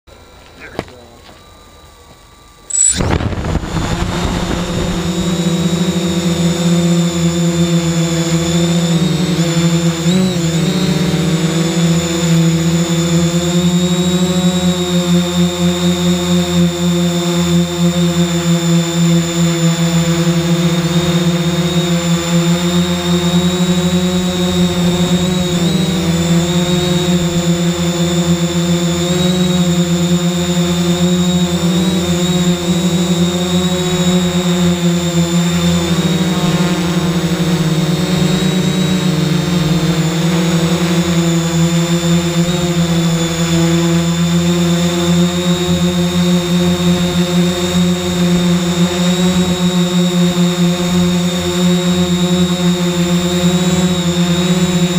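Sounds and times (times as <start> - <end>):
drone motors and propellers droning: 0.1 - 54.9
high electric whine: 0.1 - 54.9.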